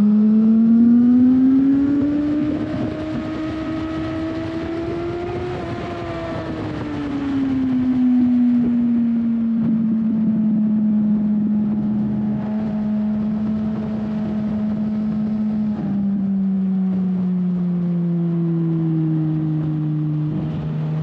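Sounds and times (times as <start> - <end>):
motorcycle engine running at speed: 0.0 - 21.0.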